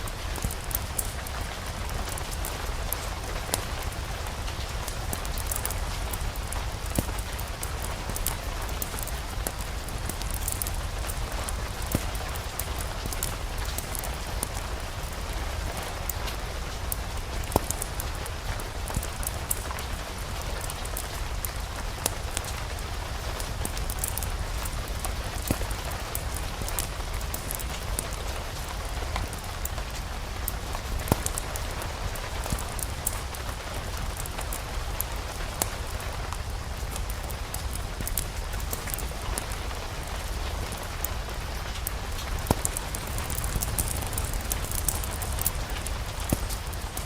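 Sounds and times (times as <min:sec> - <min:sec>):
sharp ticks and pops: 0:00.0 - 0:47.0
steady rain falling: 0:00.0 - 0:47.0.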